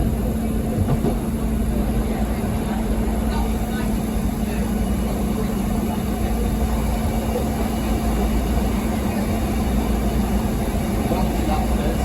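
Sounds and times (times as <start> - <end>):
vehicle running rumble: 0.0 - 12.0.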